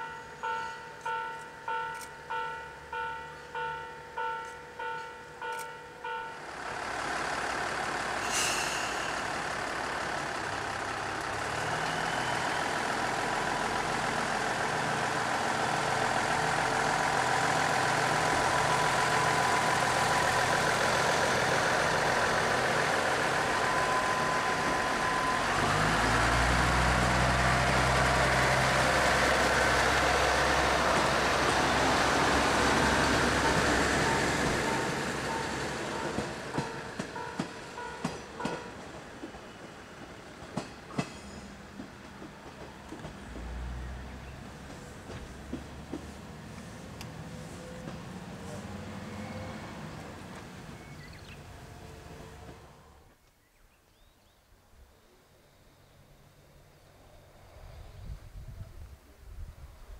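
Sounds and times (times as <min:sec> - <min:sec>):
diesel railcar engine drone: 0:00.0 - 0:53.2, 0:54.6 - 0:59.9.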